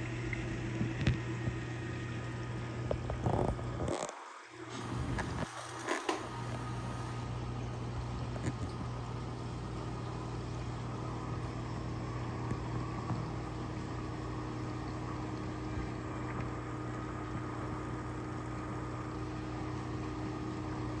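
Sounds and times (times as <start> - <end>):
aquarium pumps humming: 0.0 - 21.0.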